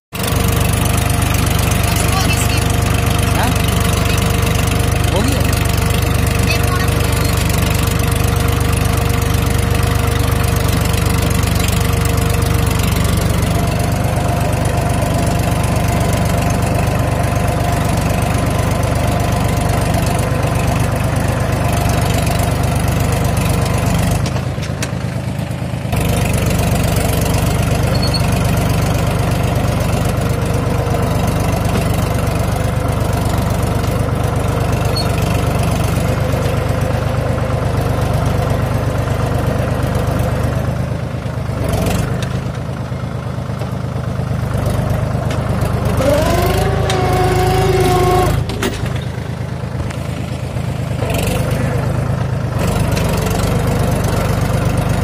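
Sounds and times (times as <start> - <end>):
tractor diesel engine running: 0.1 - 55.0.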